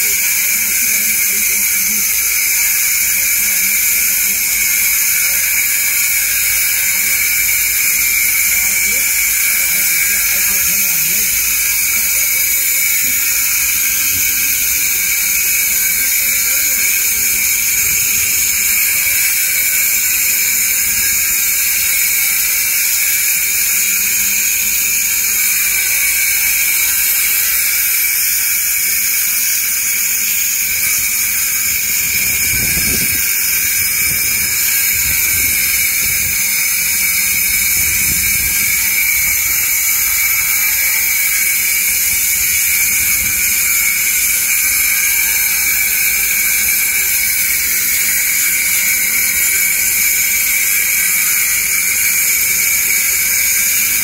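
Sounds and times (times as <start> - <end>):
angle grinder cutting concrete: 0.0 - 54.0.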